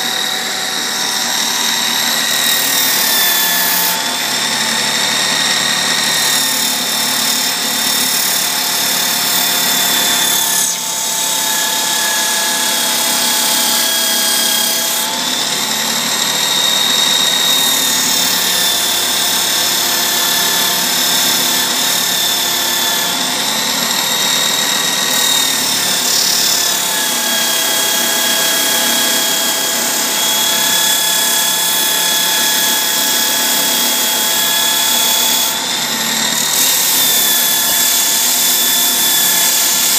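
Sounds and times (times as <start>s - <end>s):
motor machine whining: 0.0s - 39.9s.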